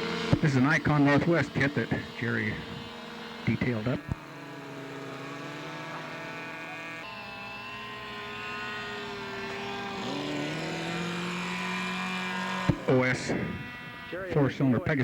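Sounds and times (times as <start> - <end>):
model airplane engine running: 0.0 - 15.0.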